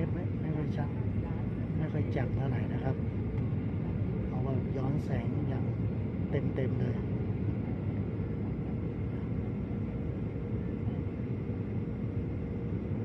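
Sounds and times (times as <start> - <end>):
faint steady hum: 0.0 - 13.0
jet engines droning: 0.0 - 13.0.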